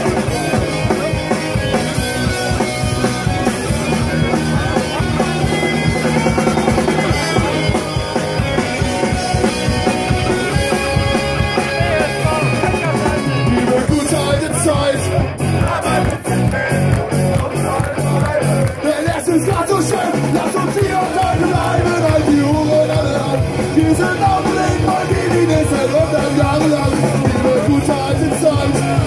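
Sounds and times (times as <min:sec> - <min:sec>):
rock band playing loudly: 0:00.0 - 0:29.0.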